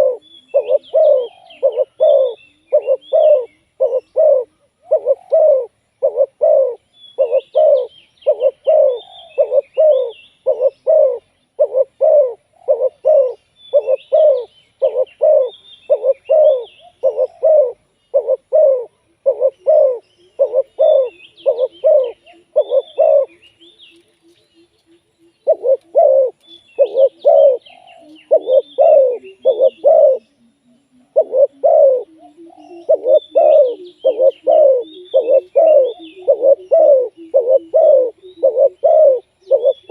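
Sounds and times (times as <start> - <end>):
doves cooing rapidly: 0.0 - 23.5, 25.2 - 39.9
small birds chirping faintly: 0.0 - 39.9
soft low coo notes: 0.0 - 39.9.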